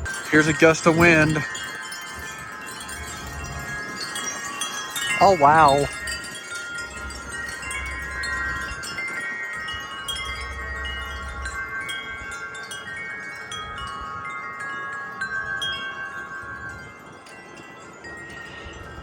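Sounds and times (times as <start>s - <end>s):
low wind rumble: 0.0s - 19.0s
metal wind chimes ringing: 0.0s - 19.0s.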